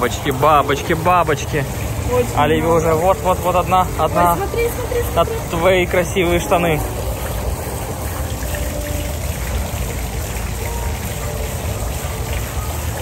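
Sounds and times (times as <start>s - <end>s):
faint background music: 0.0s - 13.0s
fountain water trickling: 0.0s - 13.0s.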